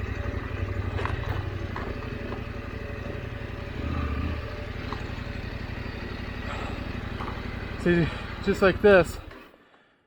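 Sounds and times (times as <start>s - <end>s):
motorcycle engine low pulsing: 0.0s - 10.0s.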